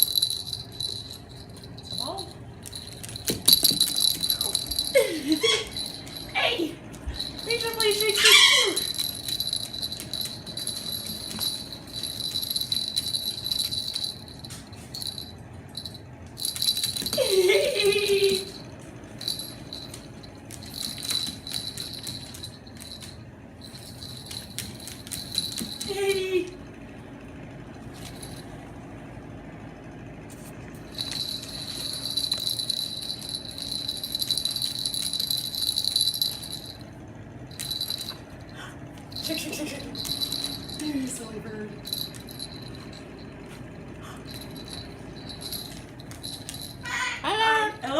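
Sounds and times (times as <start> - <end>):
jingle-bell toy jingling: 0.0 - 26.6, 27.9 - 28.5, 30.9 - 36.9, 37.5 - 47.8.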